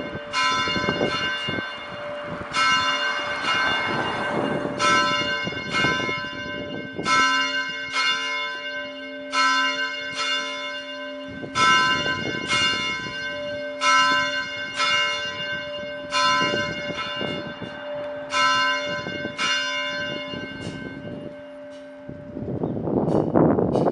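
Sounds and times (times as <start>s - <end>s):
church bell ringing: 0.0s - 23.9s.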